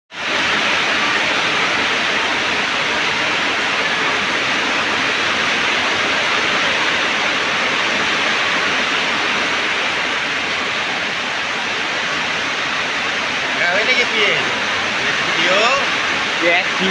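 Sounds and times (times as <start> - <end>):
heavy rain pouring: 0.1 - 16.9.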